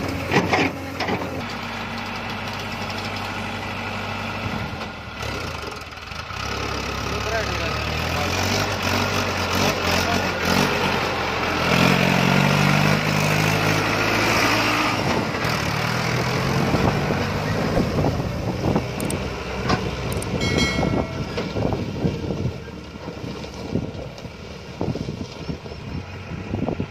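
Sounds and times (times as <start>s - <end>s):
tractor diesel engine under load: 0.0s - 26.9s.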